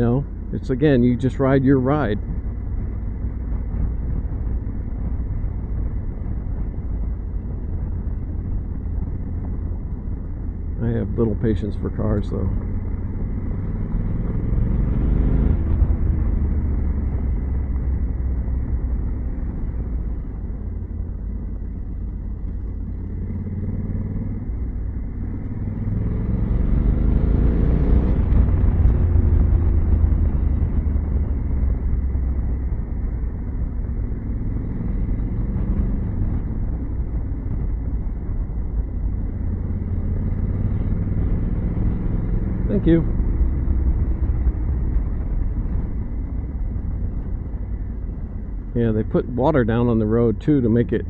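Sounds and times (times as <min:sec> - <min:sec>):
motorcycle engine running: 0:00.0 - 0:51.0
wind and road noise: 0:00.0 - 0:51.0.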